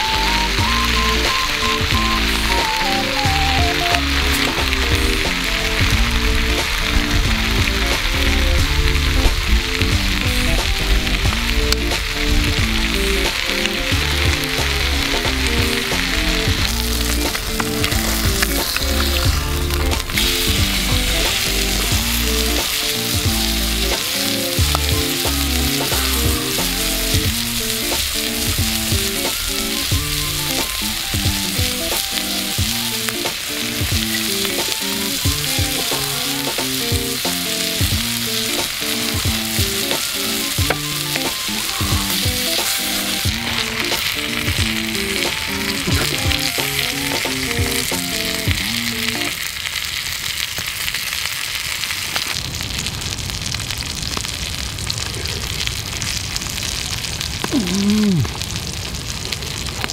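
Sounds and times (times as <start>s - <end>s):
background music with bass line: 0.0s - 49.3s
meat sizzling in a pan: 0.0s - 59.9s
carbonated water bubbling: 0.1s - 49.4s, 57.2s - 59.5s.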